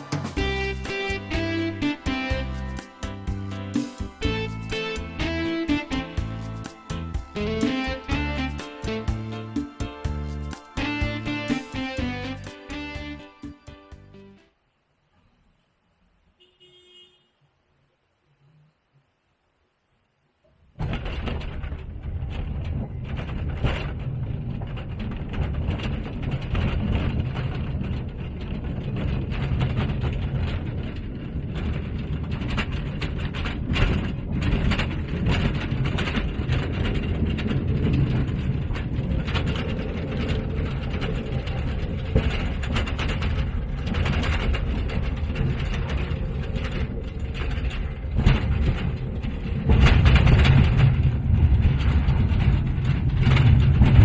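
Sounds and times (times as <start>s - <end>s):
mine trolley train rattling: 0.0s - 14.3s, 20.8s - 54.0s.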